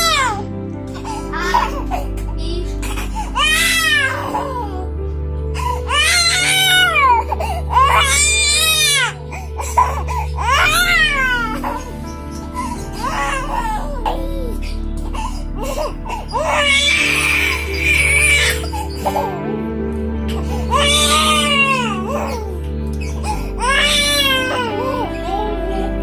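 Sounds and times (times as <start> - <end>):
baby crying: 0.0 - 26.0.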